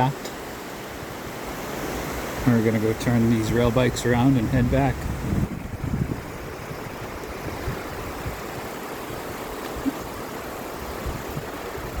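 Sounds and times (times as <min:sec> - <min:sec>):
wind buffeting microphone: 0:01.0 - 0:12.0.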